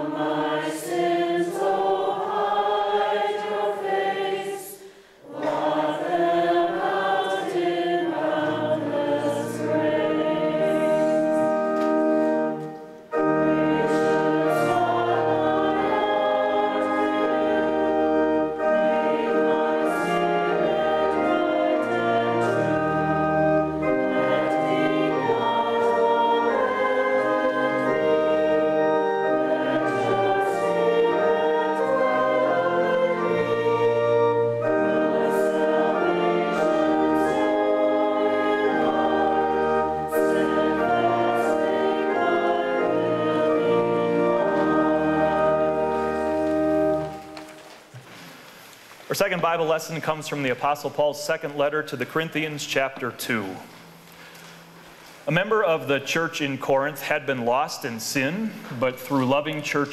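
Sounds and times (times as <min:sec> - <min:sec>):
instrumental accompaniment: 0:00.0 - 0:04.6, 0:05.2 - 0:57.8
congregation singing a hymn: 0:00.0 - 0:59.9.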